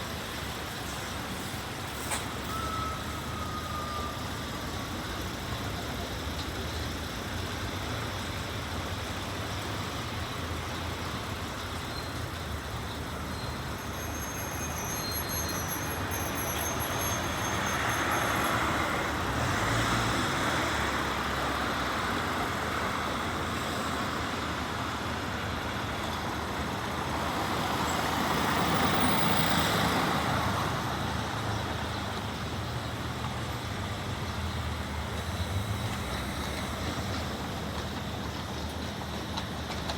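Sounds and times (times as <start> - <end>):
road traffic noise: 0.0 - 39.9
vehicles passing: 0.0 - 39.9.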